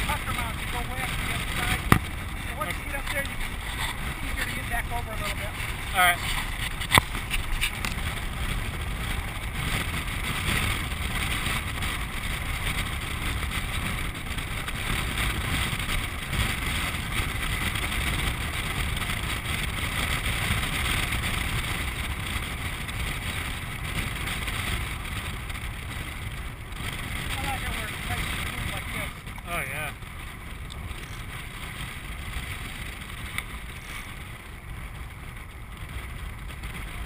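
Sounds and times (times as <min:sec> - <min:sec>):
land sailer running: 0:00.0 - 0:37.0
wind buffeting microphone: 0:00.0 - 0:37.0.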